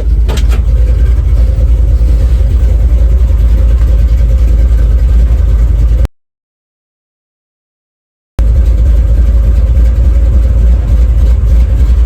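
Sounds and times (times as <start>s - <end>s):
car engine idling: 0.0s - 6.1s, 8.4s - 12.0s.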